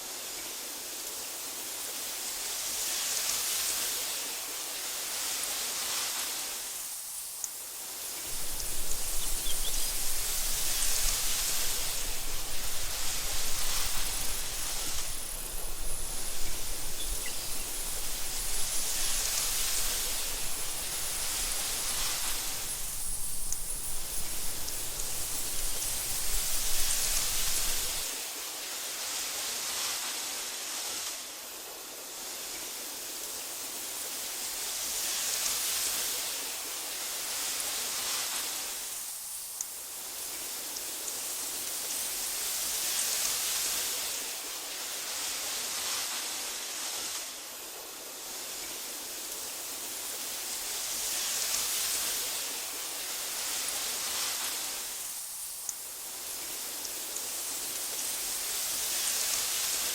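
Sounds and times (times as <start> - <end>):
wind through tall grass: 0.0 - 59.9.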